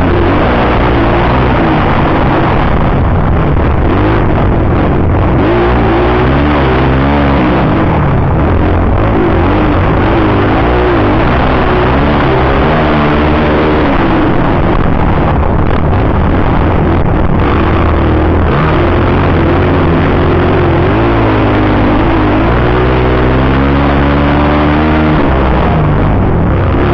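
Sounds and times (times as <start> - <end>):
motocross bike engine revving: 0.0 - 26.9.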